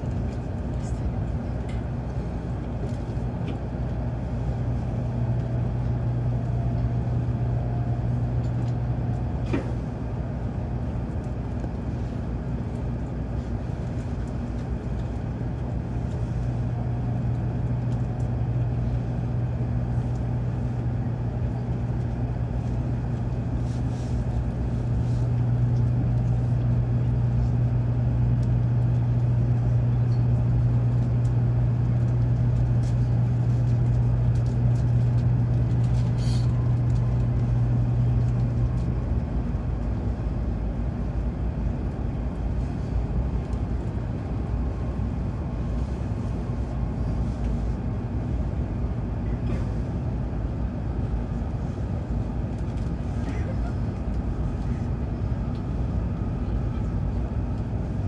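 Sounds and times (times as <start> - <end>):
train cabin hum and rumble: 0.0 - 58.0.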